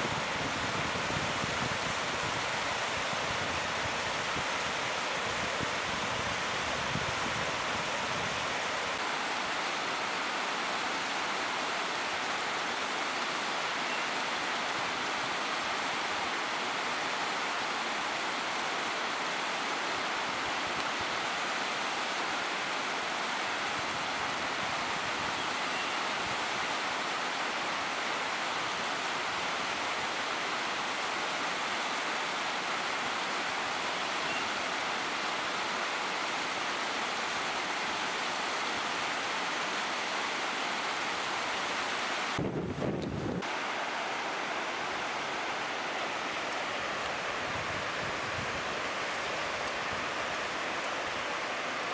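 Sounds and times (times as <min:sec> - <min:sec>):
river rushing over rapids: 0:00.0 - 0:51.9.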